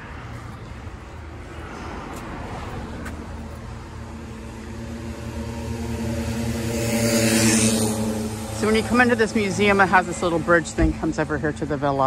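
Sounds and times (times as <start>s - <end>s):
car passing by: 0.0s - 12.0s.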